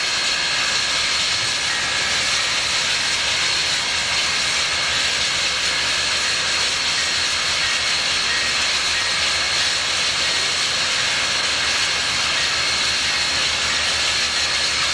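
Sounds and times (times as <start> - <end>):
steam locomotive hissing: 0.0 - 14.9.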